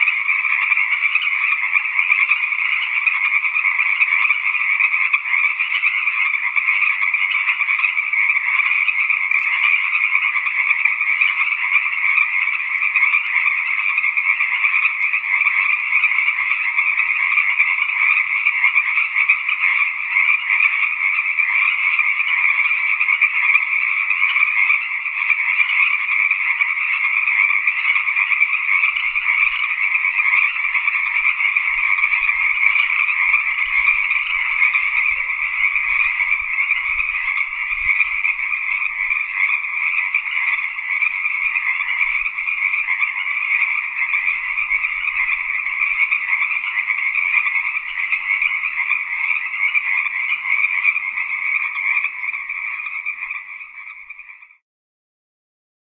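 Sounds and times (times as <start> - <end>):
tree frogs calling: 0.0 - 54.6.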